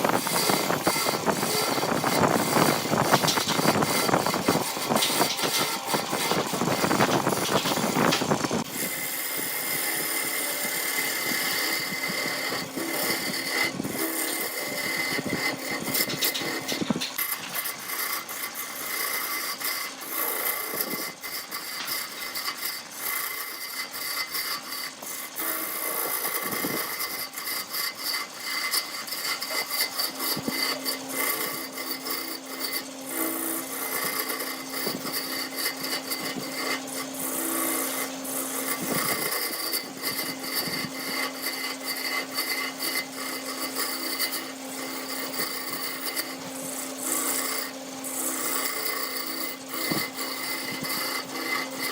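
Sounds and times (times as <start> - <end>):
lathe humming: 0.0 - 51.9
tool scraping spinning wood: 0.0 - 51.9.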